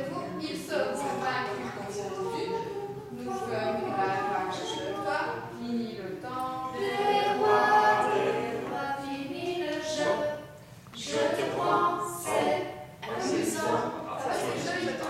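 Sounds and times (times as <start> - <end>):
mixed choir singing: 0.0 - 5.6, 6.2 - 15.0.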